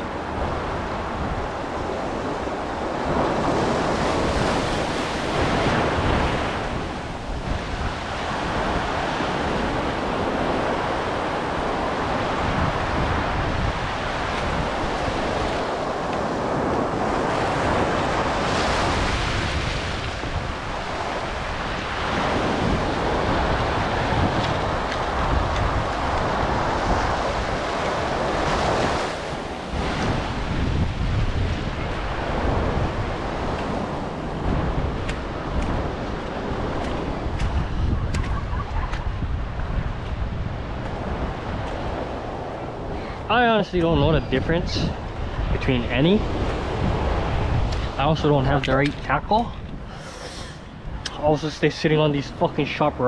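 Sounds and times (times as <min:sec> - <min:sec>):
waves washing over rocks: 0:00.0 - 0:53.0
wind buffeting microphone: 0:00.0 - 0:53.0.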